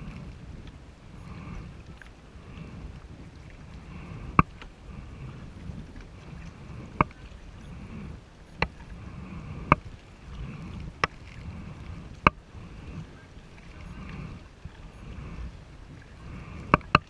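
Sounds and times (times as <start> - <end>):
paddle swishing water: 0.0 - 17.0.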